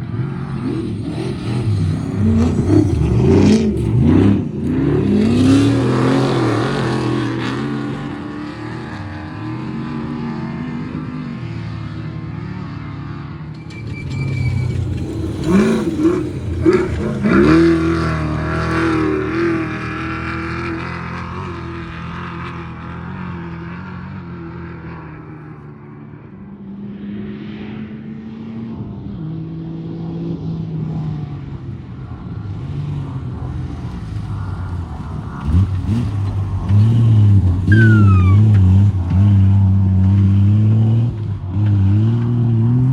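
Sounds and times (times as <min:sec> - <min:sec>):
race engines revving and passing: 0:00.0 - 0:25.2, 0:33.5 - 0:42.9.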